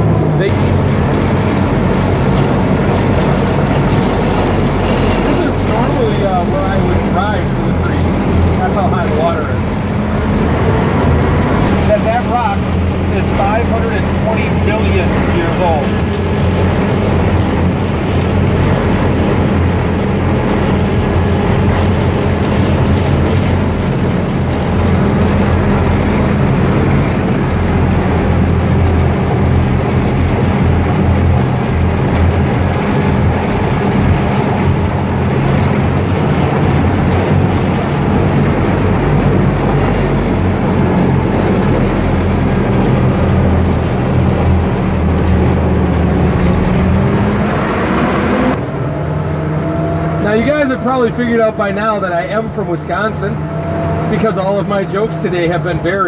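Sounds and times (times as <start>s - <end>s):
boat engine drone: 0.0s - 56.0s
rushing churning wake: 0.0s - 56.0s.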